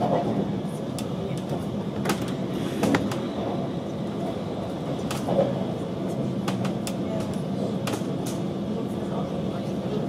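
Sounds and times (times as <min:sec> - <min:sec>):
train carriage rumble: 0:00.0 - 0:10.0.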